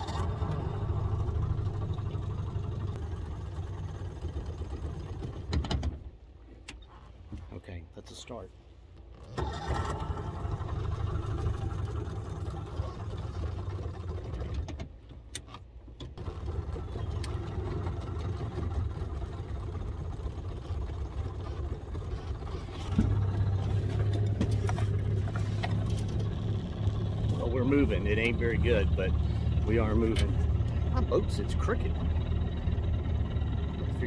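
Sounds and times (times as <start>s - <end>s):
outboard motor running: 0.0s - 6.1s, 9.0s - 15.0s, 16.2s - 34.0s.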